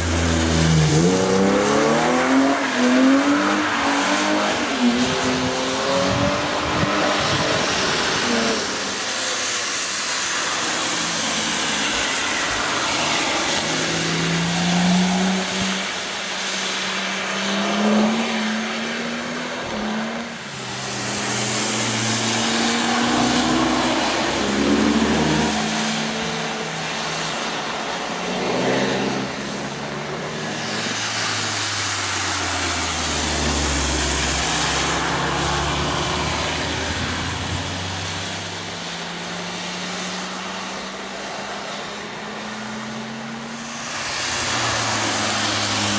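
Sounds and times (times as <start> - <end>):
race car engines revving: 0.0 - 45.9
tyres hissing through water: 0.0 - 45.9.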